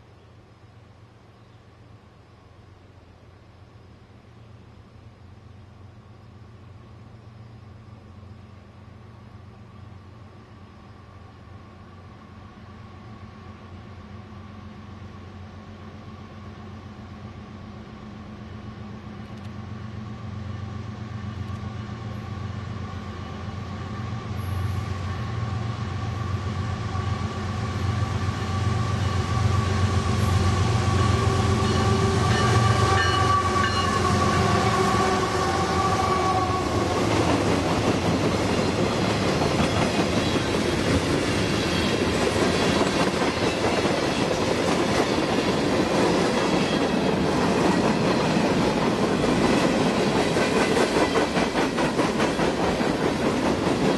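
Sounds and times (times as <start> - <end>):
diesel locomotive engine drone: 0.0 - 53.9.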